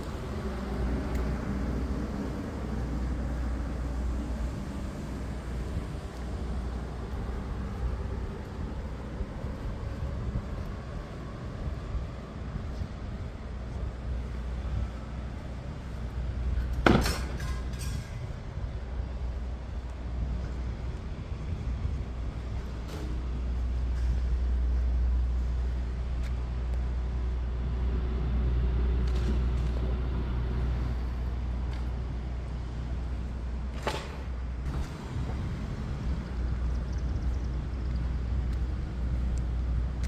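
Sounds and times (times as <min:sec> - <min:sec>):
low street rumble: 0:00.0 - 0:40.0.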